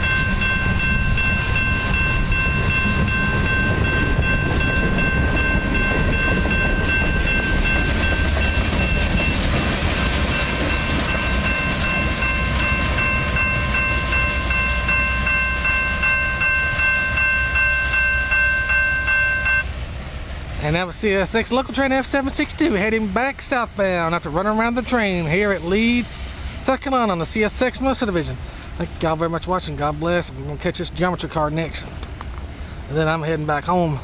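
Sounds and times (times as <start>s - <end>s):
crossing warning bell ringing: 0.0s - 31.6s
freight train wheels rumbling on rails: 0.0s - 34.0s.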